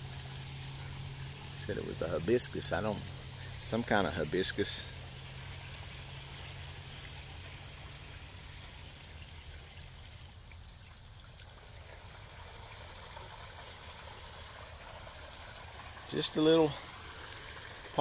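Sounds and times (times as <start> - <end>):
water trickling and splashing: 0.0 - 18.0.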